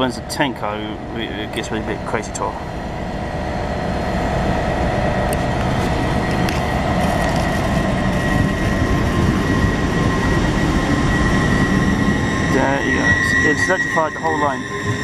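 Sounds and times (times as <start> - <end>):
steady high whine: 0.0 - 15.0
train wheels rumbling on rail: 0.0 - 15.0.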